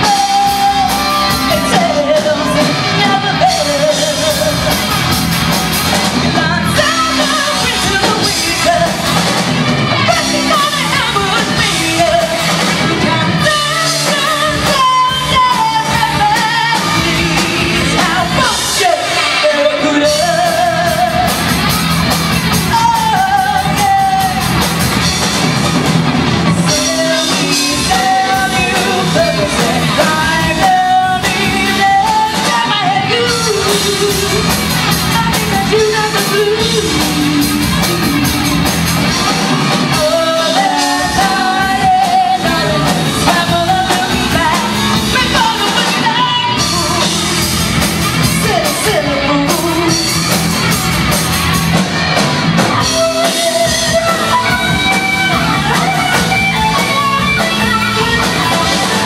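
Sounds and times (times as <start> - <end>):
woman singing: 0.0 - 4.8, 6.2 - 9.2, 9.9 - 21.5, 22.7 - 24.6, 26.6 - 38.8, 39.9 - 47.6, 48.2 - 50.3, 52.8 - 59.0
live rock band: 0.0 - 59.0.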